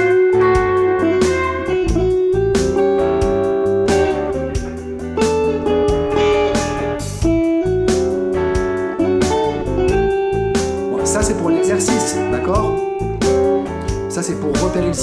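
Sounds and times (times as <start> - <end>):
bass guitar: 0.0 - 15.0
drums: 0.0 - 15.0
electric guitar blues phrases: 0.0 - 15.0.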